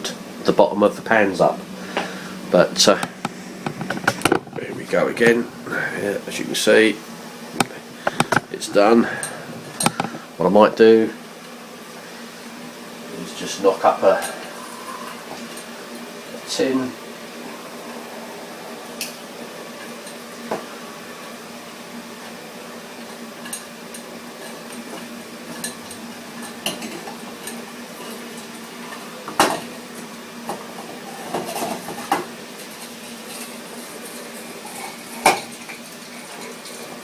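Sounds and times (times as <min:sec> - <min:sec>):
steady low hum: 0:00.0 - 0:35.7.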